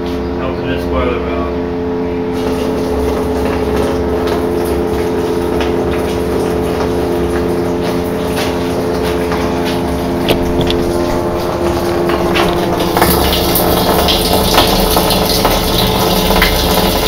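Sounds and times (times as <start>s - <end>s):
sump pump humming: 0.0s - 17.0s
liquid flowing: 1.8s - 17.0s.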